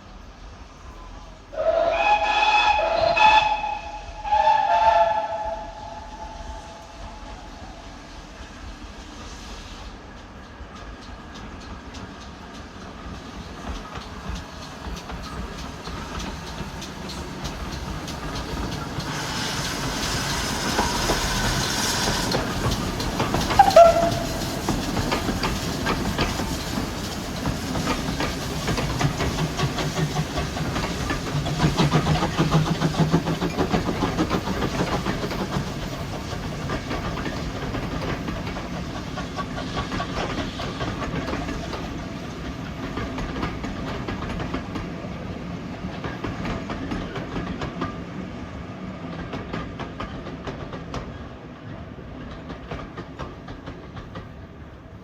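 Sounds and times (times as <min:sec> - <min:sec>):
hiss: 0:00.4 - 0:48.6
train wheels clicking on rails: 0:01.5 - 0:55.0.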